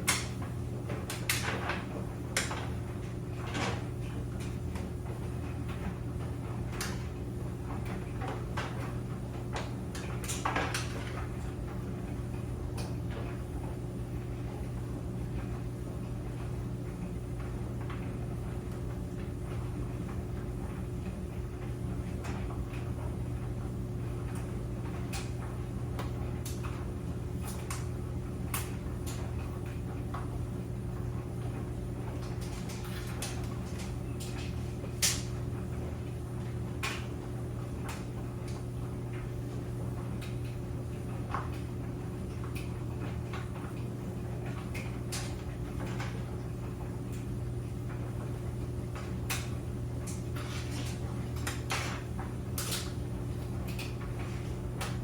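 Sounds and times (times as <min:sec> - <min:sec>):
clothes dryer humming: 0:00.0 - 0:55.0.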